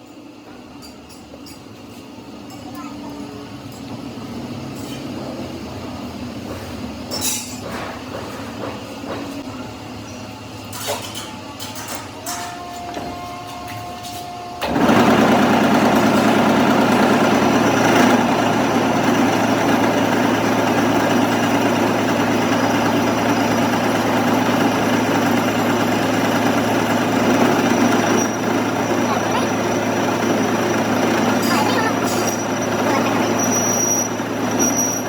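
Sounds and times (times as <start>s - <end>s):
workshop machine humming and buzzing: 0.0s - 35.0s.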